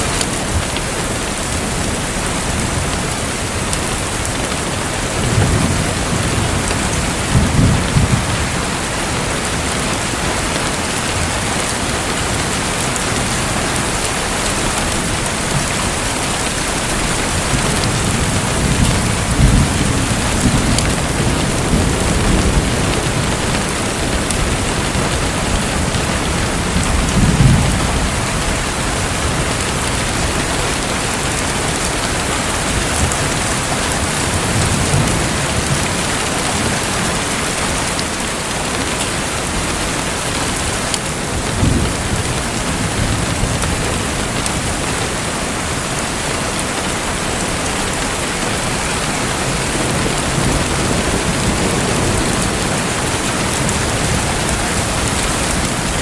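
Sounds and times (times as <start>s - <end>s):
rushing splashing water: 0.0s - 56.0s.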